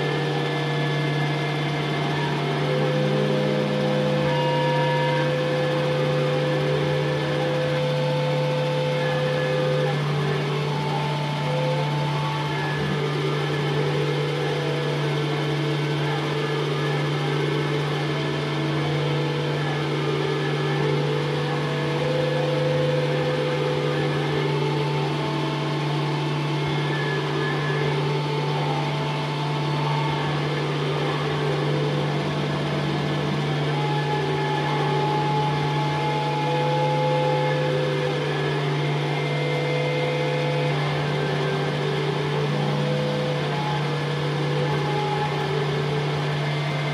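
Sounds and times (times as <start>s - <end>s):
long held higher tones: 0.0s - 46.9s
low drone hum: 0.0s - 46.9s.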